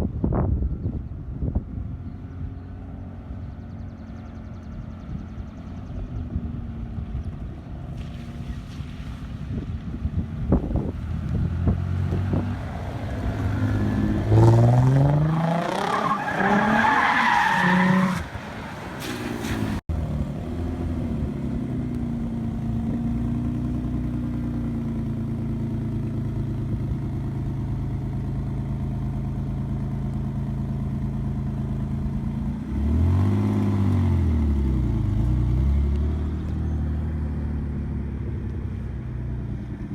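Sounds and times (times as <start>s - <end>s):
car engine and exhaust revving: 1.4s - 39.9s.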